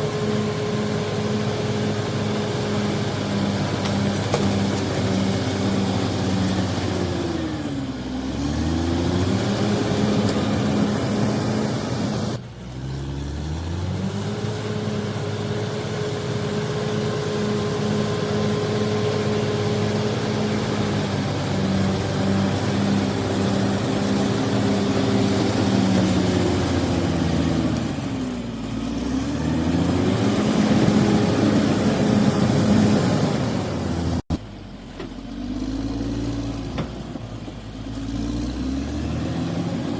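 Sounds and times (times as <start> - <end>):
heavy machine engine running hard: 0.0 - 39.9.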